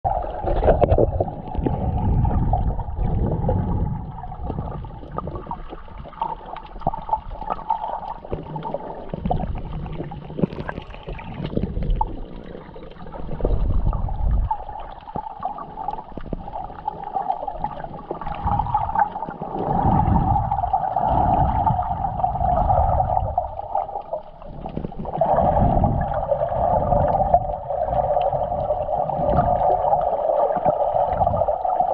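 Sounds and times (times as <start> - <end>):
underwater rushing rumble: 0.0 - 31.9.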